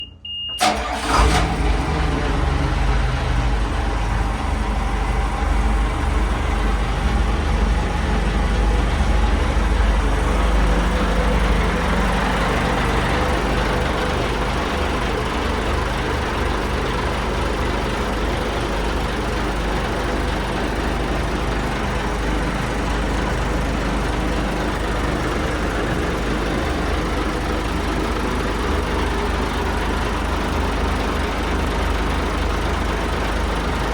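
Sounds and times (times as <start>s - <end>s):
boat engine idling: 0.6s - 33.9s.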